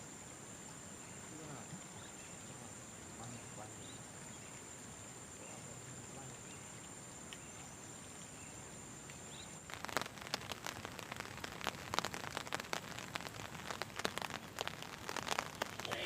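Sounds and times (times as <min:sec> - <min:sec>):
faint steady hiss: 0:00.0 - 0:16.0
patter of sharp ticks and crackles: 0:00.2 - 0:16.0.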